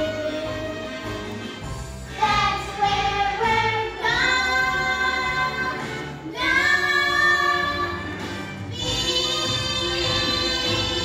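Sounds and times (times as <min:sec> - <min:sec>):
children singing: 0:00.0 - 0:01.4, 0:02.1 - 0:11.0
instrumental accompaniment: 0:00.0 - 0:11.0.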